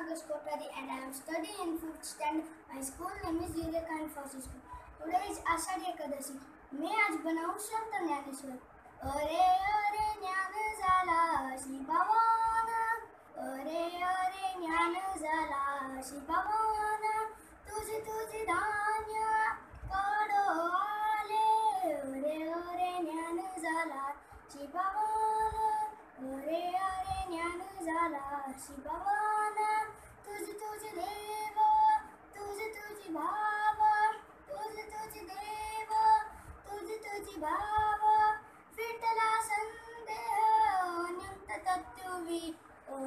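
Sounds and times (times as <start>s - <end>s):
boy singing devotional song: 0.0s - 43.0s.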